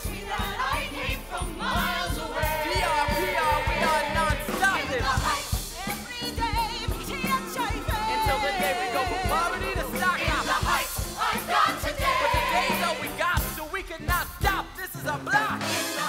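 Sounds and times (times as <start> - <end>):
band with drums: 0.0 - 16.0.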